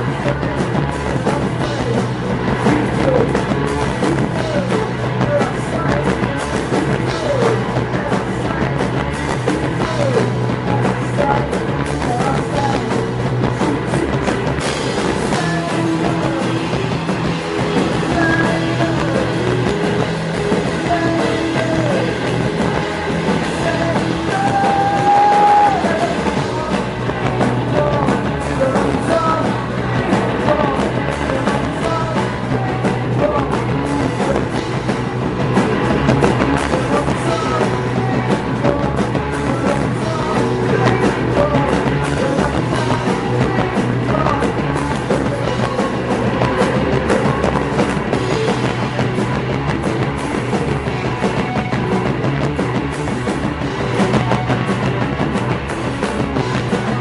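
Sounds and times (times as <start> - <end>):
person singing: 0.0 - 14.3, 15.0 - 35.2, 36.5 - 48.9
electric guitar: 0.0 - 57.0
rock band playing live: 0.0 - 57.0.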